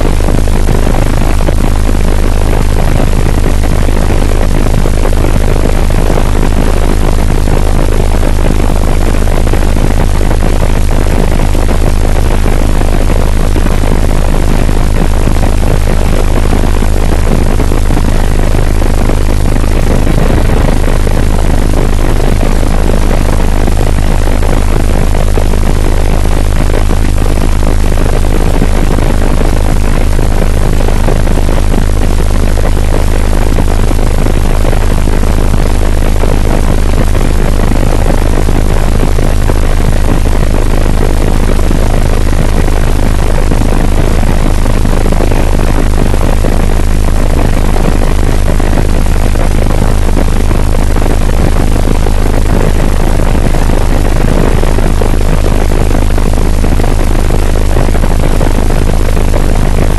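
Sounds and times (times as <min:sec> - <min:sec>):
helicopter rotor and turbine: 0:00.0 - 0:57.1.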